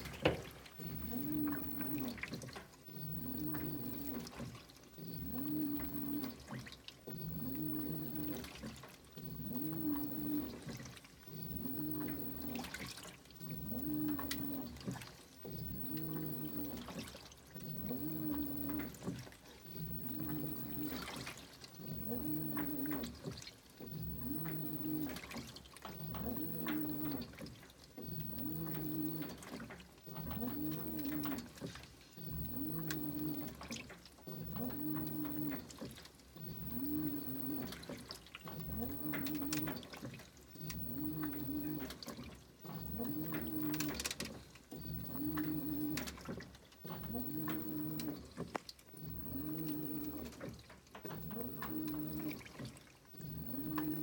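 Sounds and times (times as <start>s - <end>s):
washing machine motor whine: 0.0s - 54.0s
water and clothes sloshing: 0.0s - 54.0s.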